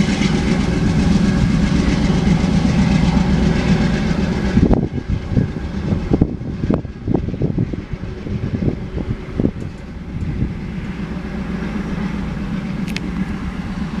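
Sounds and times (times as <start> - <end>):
train rumbling: 0.0 - 14.0
train wheels clattering on rails: 0.0 - 14.0.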